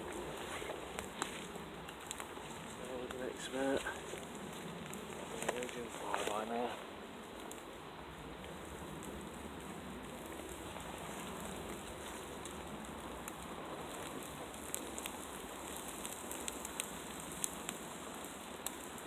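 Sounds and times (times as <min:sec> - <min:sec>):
steady rain in woodland: 0:00.0 - 0:19.0.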